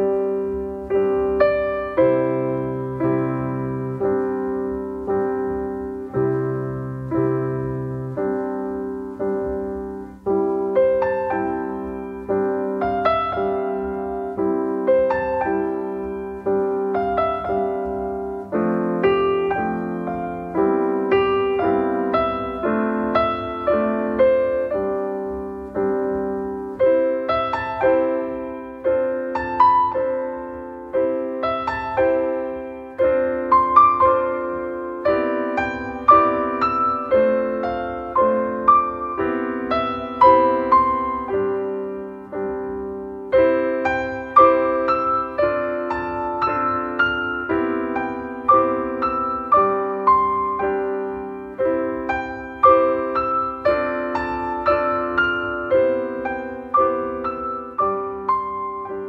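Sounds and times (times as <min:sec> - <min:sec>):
slow solo piano: 0:00.0 - 0:59.0.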